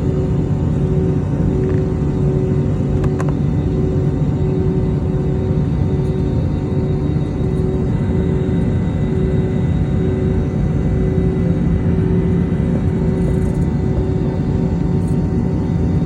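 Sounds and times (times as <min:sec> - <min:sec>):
airplane cabin rumble and hum: 0:00.0 - 0:16.0
jet engines droning: 0:00.0 - 0:16.0.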